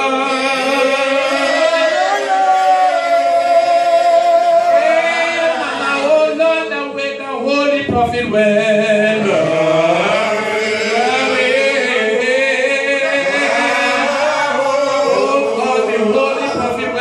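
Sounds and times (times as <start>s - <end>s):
man singing solo: 0.0s - 17.0s.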